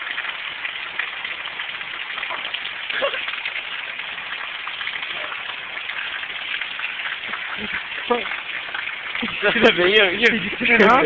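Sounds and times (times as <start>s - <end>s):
heavy rain falling: 1.4s - 11.0s.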